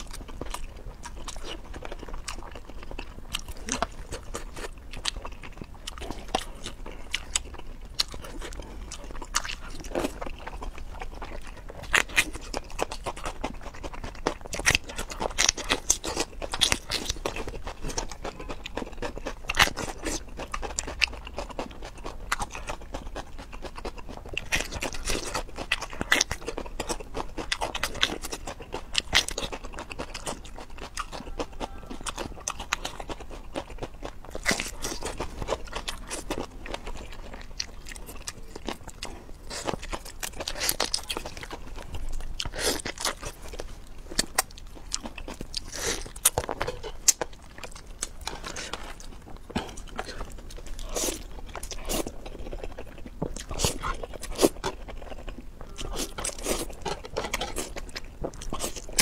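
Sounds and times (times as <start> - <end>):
person crunching and chewing: 0.0 - 59.0.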